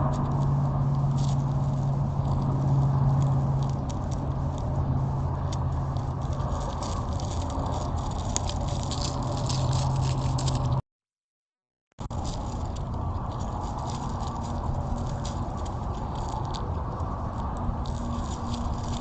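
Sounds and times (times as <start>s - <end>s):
low electrical hum: 0.0s - 10.8s, 12.0s - 19.0s
small clicks and crackles: 0.0s - 10.8s, 12.0s - 19.0s.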